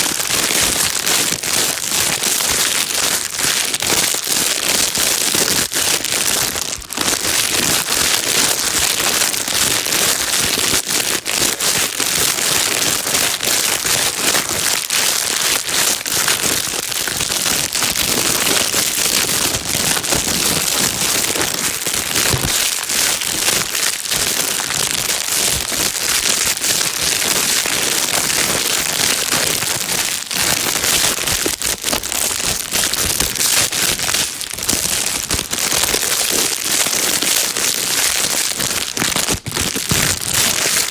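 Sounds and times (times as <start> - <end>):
plastic bag crinkling: 0.0 - 40.9.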